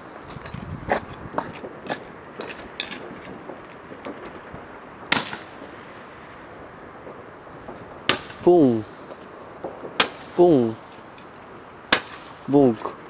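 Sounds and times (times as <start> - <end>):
firework bang: 0.4 - 11.0
faint firework pops: 0.4 - 12.4.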